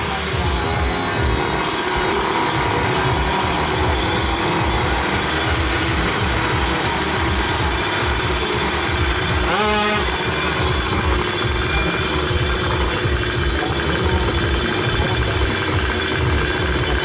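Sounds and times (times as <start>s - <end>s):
two-stroke bike engines running: 0.0s - 17.0s.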